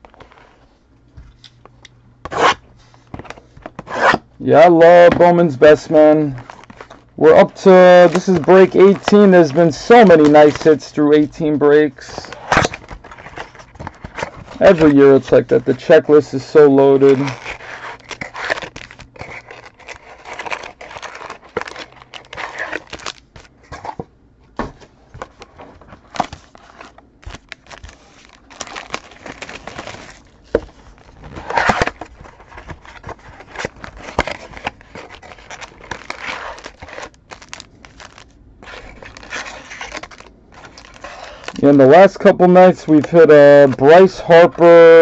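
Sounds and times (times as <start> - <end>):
plastic wrapping crinkling and tearing: 3.2 - 23.9, 25.2 - 45.0.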